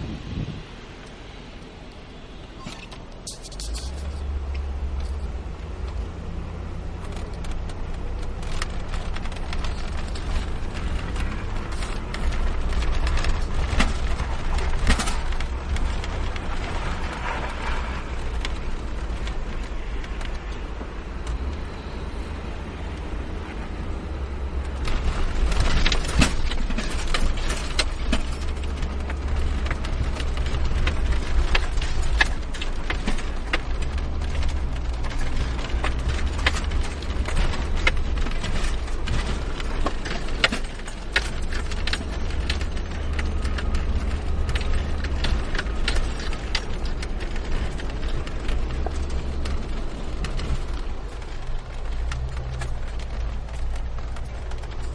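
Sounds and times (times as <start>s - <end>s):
low rumble of engine and tyres: 0.0s - 54.9s.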